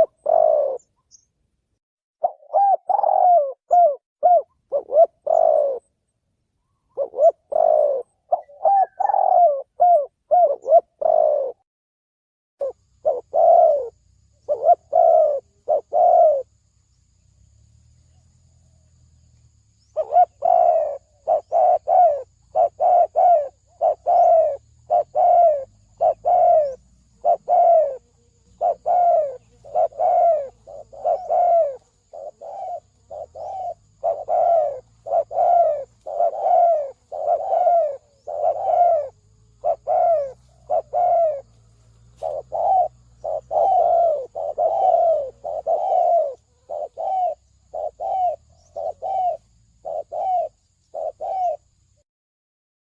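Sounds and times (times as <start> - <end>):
dove cooing: 0.0 - 1.0, 2.2 - 5.9, 6.9 - 11.6, 12.6 - 16.5, 19.8 - 51.7.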